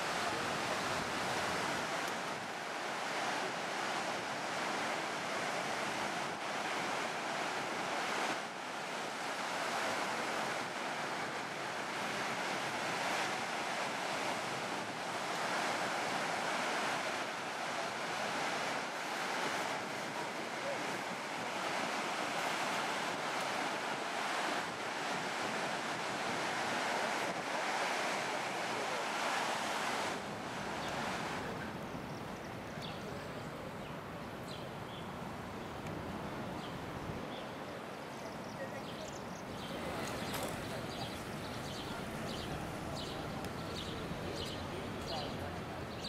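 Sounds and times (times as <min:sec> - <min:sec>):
ocean surf breaking: 0:00.0 - 0:32.6, 0:39.2 - 0:46.0.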